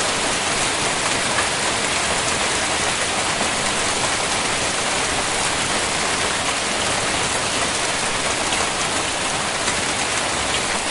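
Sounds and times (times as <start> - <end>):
hail falling heavily: 0.0 - 10.9.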